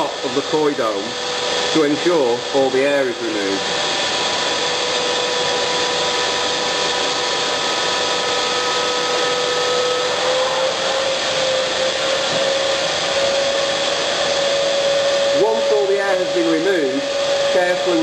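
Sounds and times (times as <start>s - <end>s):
pond vacuum humming: 0.0s - 18.0s.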